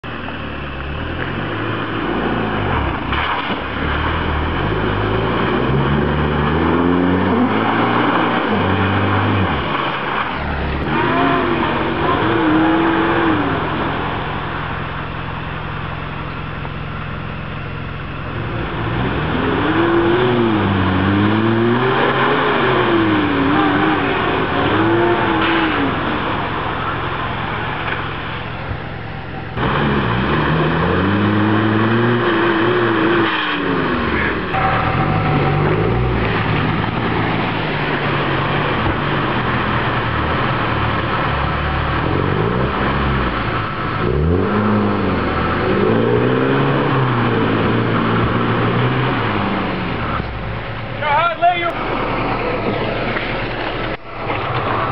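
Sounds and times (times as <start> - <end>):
truck engines revving: 0.0 - 54.9
mud and water splashing: 0.1 - 51.0, 51.7 - 54.9.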